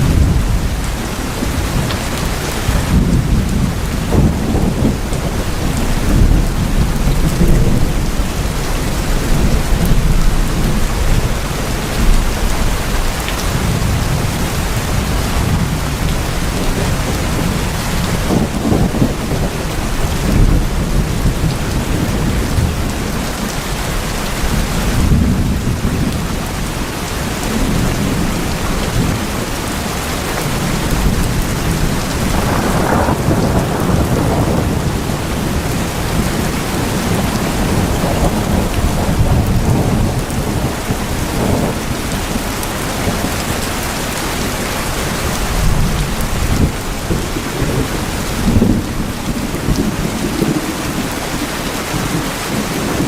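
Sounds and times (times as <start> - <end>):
rolling thunder: 0.0 - 29.8, 30.4 - 53.0
heavy rain on tin roofs: 0.0 - 53.0.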